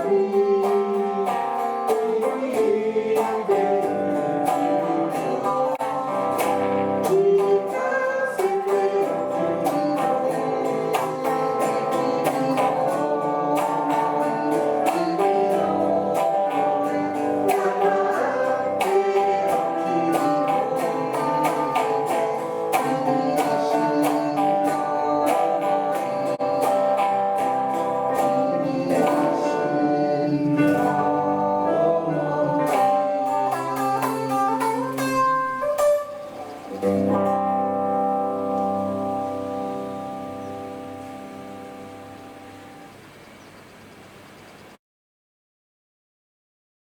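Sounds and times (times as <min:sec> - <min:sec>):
person singing: 0:00.0 - 0:42.3
guitar strumming: 0:00.0 - 0:44.3.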